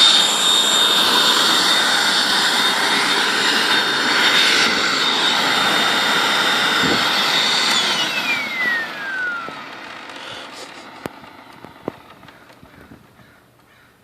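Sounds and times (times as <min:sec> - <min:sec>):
vacuum cleaner motor winding down: 0:00.0 - 0:13.4.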